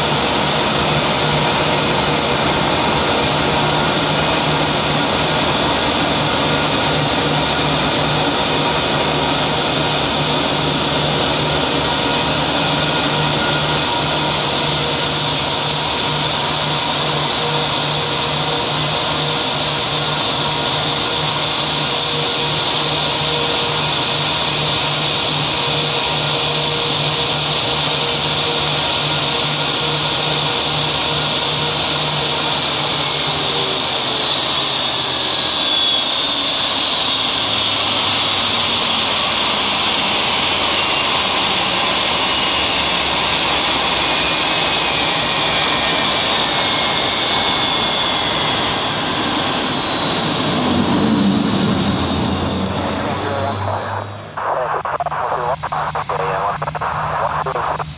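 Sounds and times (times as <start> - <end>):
jet engines whining: 0.0 - 57.9.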